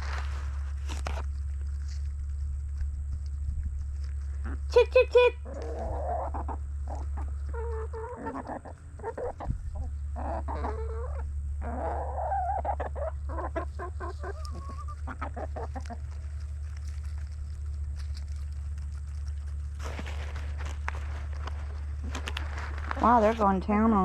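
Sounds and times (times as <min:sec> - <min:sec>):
steady low hum: 0:00.0 - 0:24.0
hens clucking: 0:01.6 - 0:23.8.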